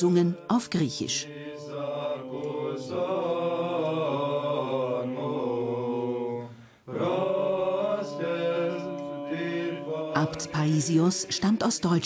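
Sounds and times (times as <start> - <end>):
men chanting: 0.0 - 12.0.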